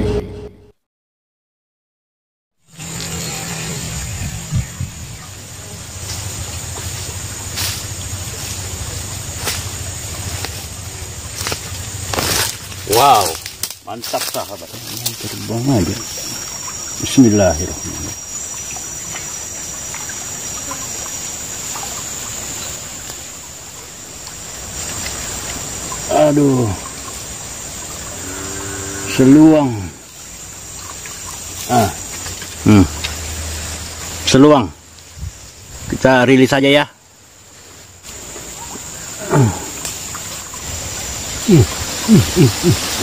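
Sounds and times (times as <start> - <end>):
low falling animal calls: 2.7 - 35.4, 38.1 - 43.0
background hiss: 2.7 - 43.0
high insect buzz: 2.7 - 43.0
stream rushing and rippling: 2.7 - 43.0.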